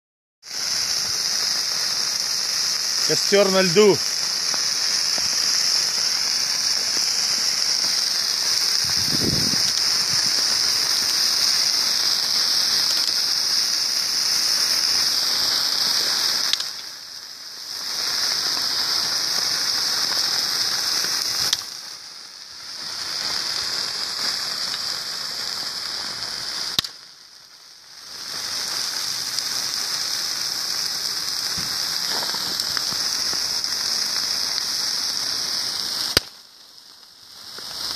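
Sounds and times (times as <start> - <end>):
bonfire hissing and crackling: 0.4 - 37.9.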